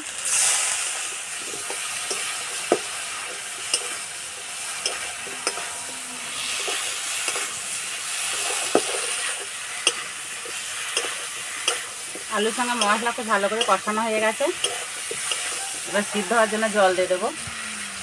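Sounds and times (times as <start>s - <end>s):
food sizzling in pan: 0.0s - 18.0s
metal spatula scraping pan: 1.4s - 17.4s.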